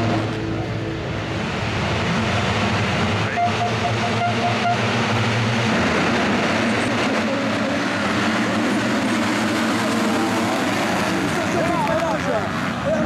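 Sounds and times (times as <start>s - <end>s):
motocross bikes revving: 2.0s - 13.0s.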